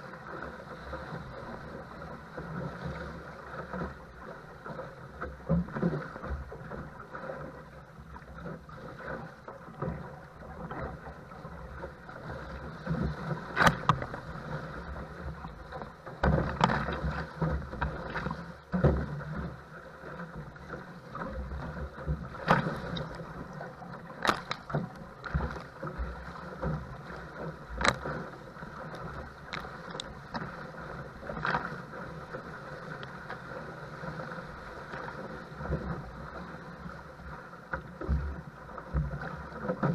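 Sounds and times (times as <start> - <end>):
water slapping against a hull: 0.0 - 39.9.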